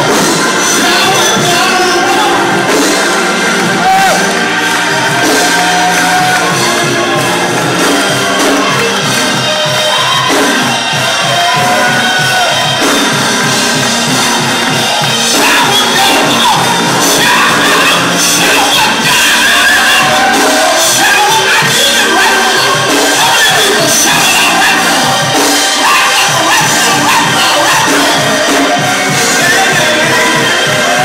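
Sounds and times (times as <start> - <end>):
congregation shouting and cheering: 0.0 - 31.0
gospel music with steady beat: 0.0 - 31.0
voices singing: 0.0 - 31.0.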